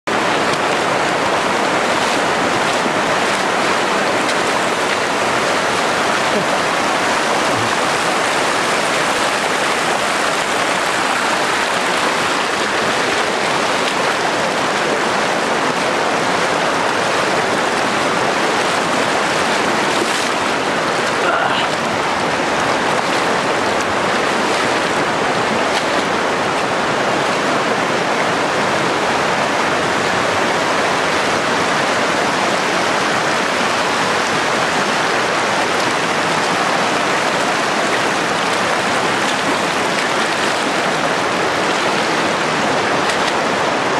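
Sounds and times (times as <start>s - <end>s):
river flowing over stones: 0.1s - 43.9s.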